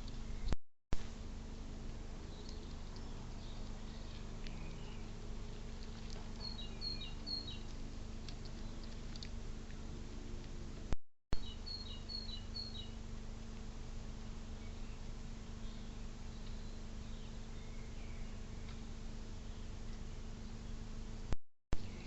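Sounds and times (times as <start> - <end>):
songbird singing: 0.0 - 0.6, 1.2 - 10.6, 11.4 - 22.0
low hum and hiss: 0.0 - 22.0.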